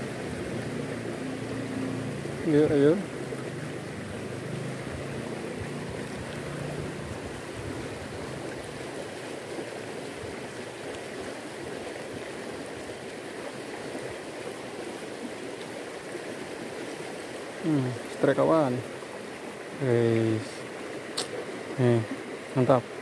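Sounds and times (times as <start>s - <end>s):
river current rushing: 0.0s - 23.0s.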